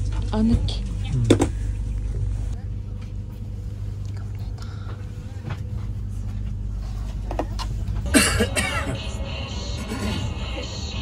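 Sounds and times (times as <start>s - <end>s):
train carriage hum and rumble: 0.0s - 11.0s.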